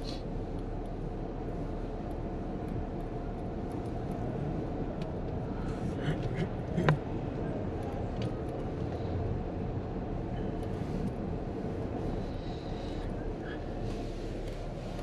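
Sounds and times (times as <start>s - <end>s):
car rumbling over cobblestones: 0.0s - 15.0s.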